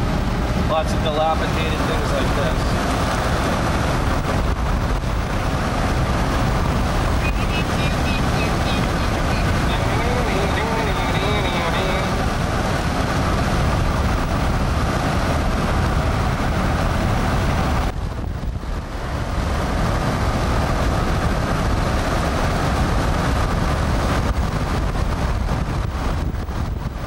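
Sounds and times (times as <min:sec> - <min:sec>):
road noise inside car: 0:00.0 - 0:27.0
wind buffeting microphone: 0:00.0 - 0:27.0.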